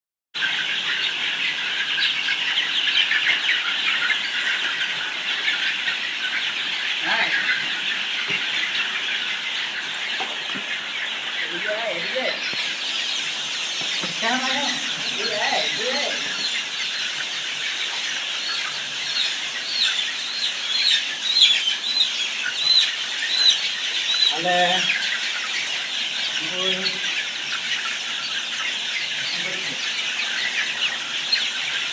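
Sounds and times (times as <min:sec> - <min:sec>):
chickens cheeping: 0:00.4 - 0:31.9.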